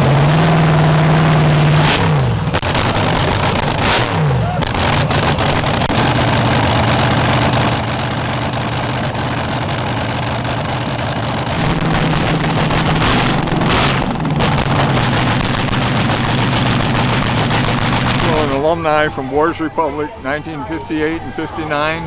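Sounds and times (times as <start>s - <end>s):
racing car engine rough idle: 0.0s - 18.6s.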